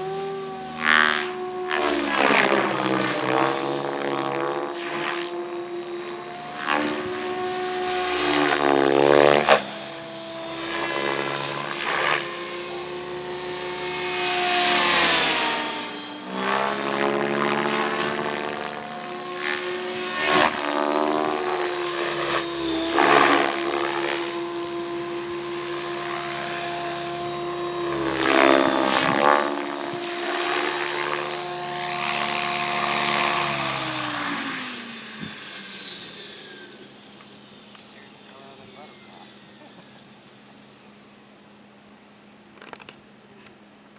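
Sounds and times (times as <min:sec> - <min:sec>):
rotor blades whooshing: 0:00.0 - 0:40.2
model helicopter motor whine: 0:00.0 - 0:43.9.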